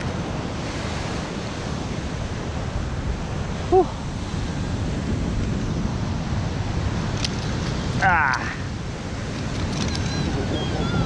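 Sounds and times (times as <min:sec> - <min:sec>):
surf on rocky shore: 0:00.0 - 0:11.0
wind on microphone: 0:00.0 - 0:11.0.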